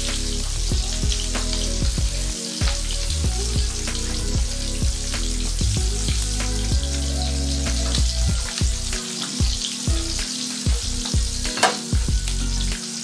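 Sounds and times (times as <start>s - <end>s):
fish frying in oil: 0.0s - 13.0s
music with steady beat: 0.0s - 13.0s.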